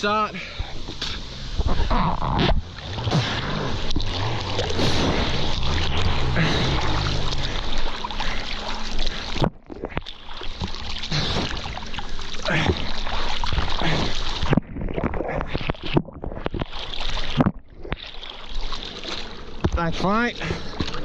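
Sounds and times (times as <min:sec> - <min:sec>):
water rushing and splashing: 0:00.0 - 0:21.0.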